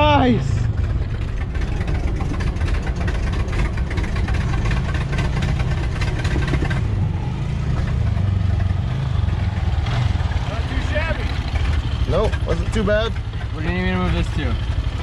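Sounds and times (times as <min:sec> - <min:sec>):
engine rumbling under load: 0:00.0 - 0:15.0.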